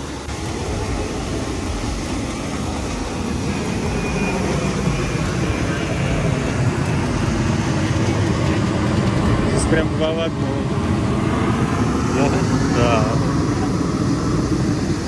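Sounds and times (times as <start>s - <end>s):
jet airliner flying overhead: 0.0s - 15.0s.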